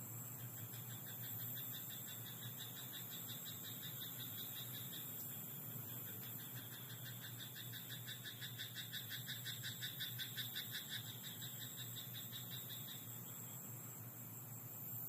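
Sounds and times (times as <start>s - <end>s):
high insect trill: 0.0s - 15.0s
frog croaking: 0.6s - 13.3s.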